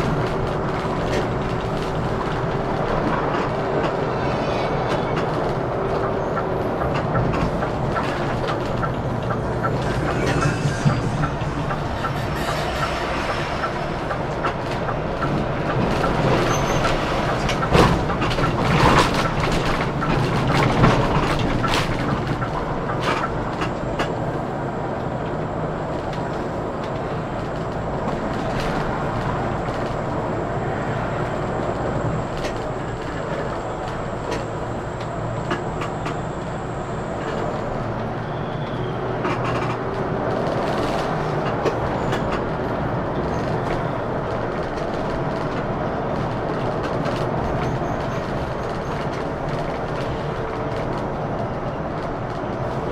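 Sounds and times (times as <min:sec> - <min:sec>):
coach engine and road rumble: 0:00.0 - 0:52.9.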